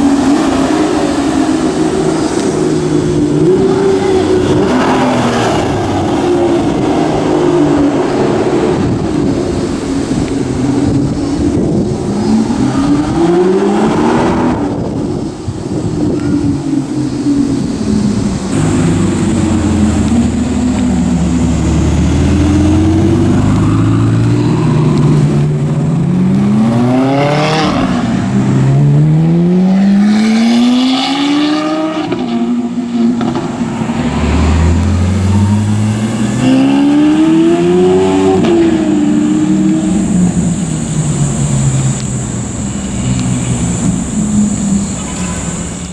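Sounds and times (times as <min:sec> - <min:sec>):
car engines revving: 0:00.0 - 0:45.9
low traffic rumble: 0:00.0 - 0:45.9.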